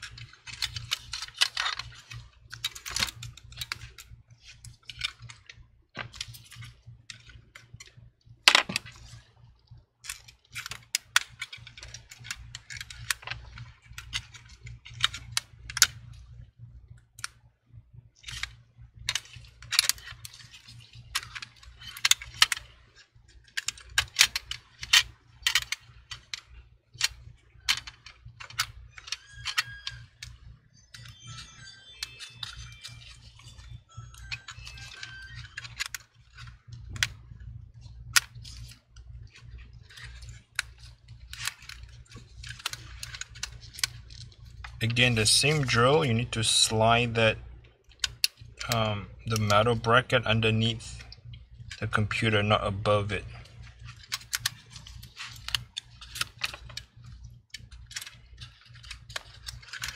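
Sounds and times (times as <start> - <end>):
small parts clicking and tapping: 0.0 - 59.9.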